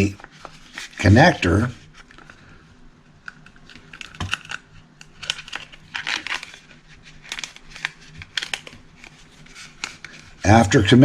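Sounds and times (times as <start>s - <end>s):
crinkling and rustling: 0.0s - 11.0s
faint low hum: 0.0s - 11.0s.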